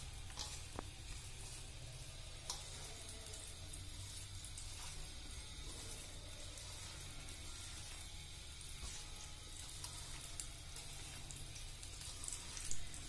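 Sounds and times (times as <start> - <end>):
hand mixing flour in bowl: 0.0 - 13.0.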